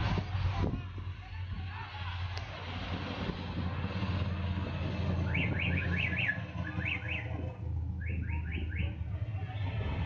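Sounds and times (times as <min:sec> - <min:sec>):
car engines running: 0:00.0 - 0:10.0.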